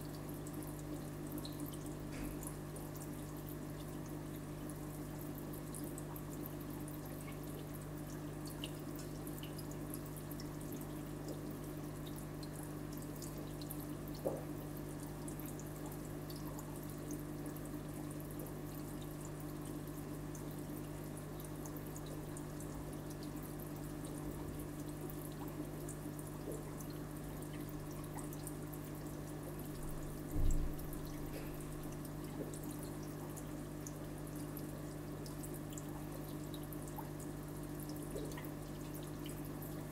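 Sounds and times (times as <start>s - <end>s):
low electric hum: 0.0s - 39.9s
water trickling and dripping: 0.0s - 39.9s.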